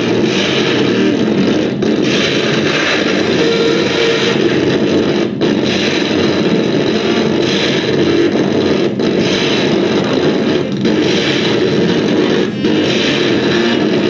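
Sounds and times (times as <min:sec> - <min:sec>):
distorted noise music: 0:00.0 - 0:14.0.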